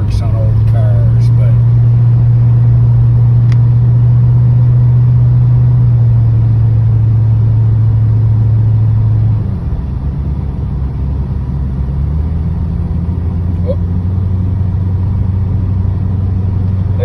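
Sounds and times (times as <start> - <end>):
car engine running inside cabin: 0.0 - 17.0.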